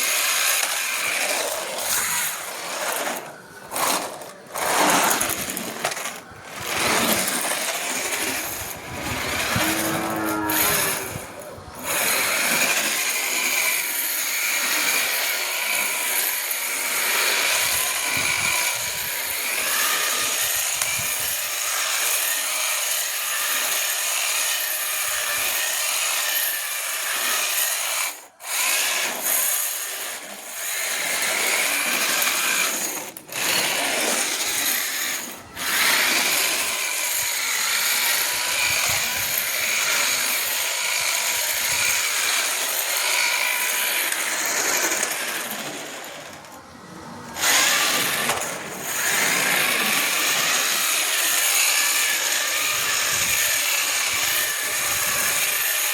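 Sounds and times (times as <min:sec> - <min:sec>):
rc car motor whirring: 0:00.0 - 0:55.9.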